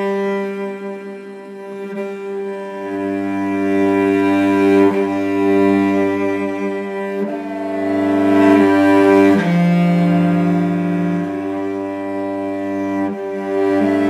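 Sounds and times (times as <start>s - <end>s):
slow bowed string music: 0.0s - 14.0s.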